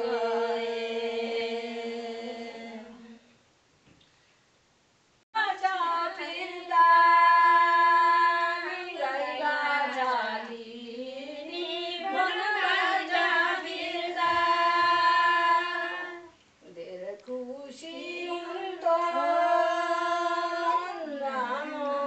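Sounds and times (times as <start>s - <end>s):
women singing unaccompanied: 0.0s - 3.3s, 5.4s - 22.0s.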